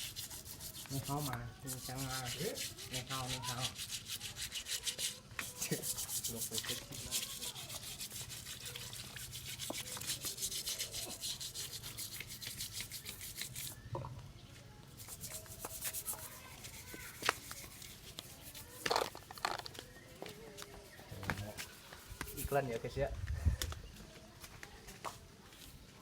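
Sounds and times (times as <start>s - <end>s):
stiff brush scrubbing metal parts: 0.0s - 13.8s, 15.0s - 22.6s.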